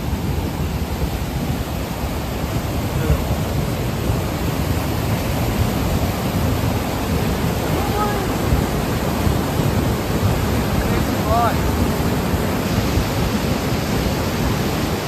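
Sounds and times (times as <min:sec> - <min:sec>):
river torrent rushing: 0:00.0 - 0:15.0.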